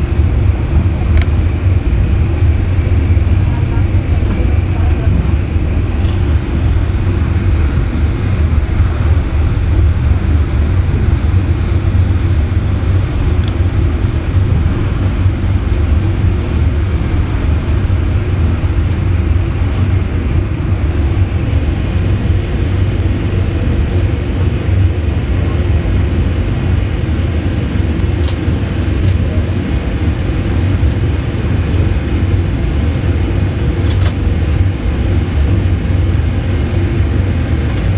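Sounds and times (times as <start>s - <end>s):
airplane cabin engine rumble: 0.0s - 37.9s.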